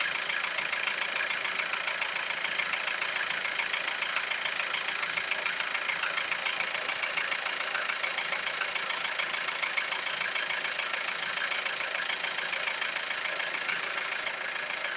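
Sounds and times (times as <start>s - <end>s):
engine idling with fast ticking: 0.0s - 14.9s.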